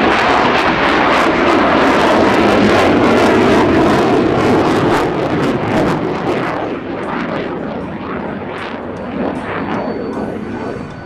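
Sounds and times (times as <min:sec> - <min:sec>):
jet engine passing overhead: 0:00.0 - 0:11.0.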